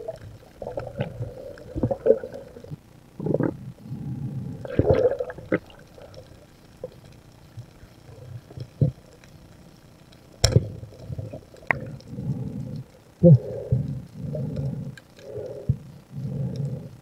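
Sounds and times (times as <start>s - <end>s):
muffled underwater gurgling: 0.0s - 17.0s.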